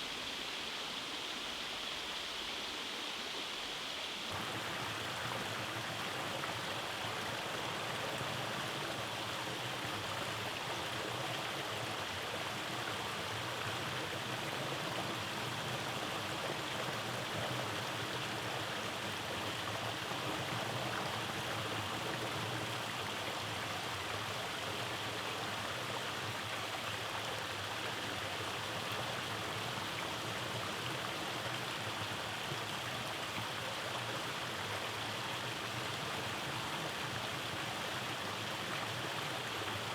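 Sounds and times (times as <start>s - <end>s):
stream rushing over rocks: 3.6s - 39.9s.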